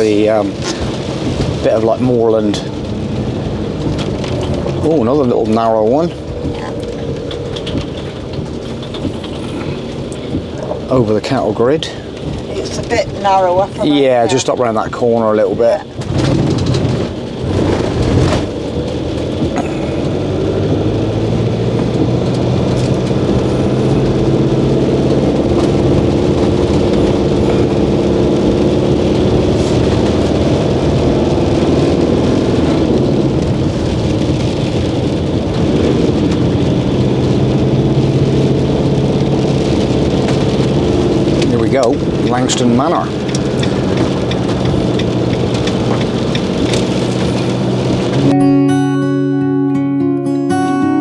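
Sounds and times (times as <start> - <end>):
tyres hissing on wet road: 0.0 - 48.3
rain: 0.0 - 49.0
engine running steadily: 0.0 - 49.5.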